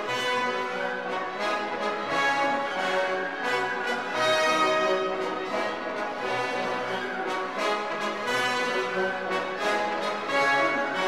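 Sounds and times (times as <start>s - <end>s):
orchestral music with brass: 0.0s - 11.0s.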